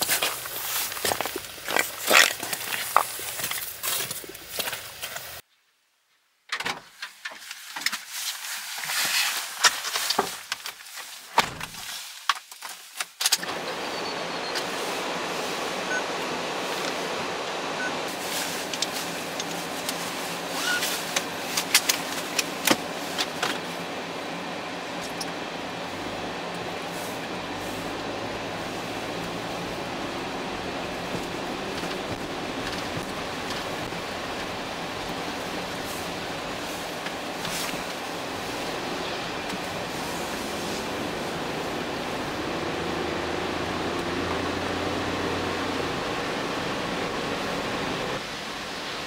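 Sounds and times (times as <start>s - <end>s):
van running heard from cabin: 0.0s - 5.4s, 13.3s - 49.0s.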